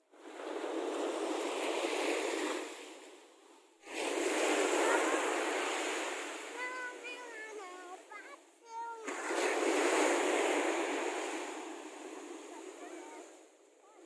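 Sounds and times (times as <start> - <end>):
sea surf washing ashore: 0.0 - 14.0.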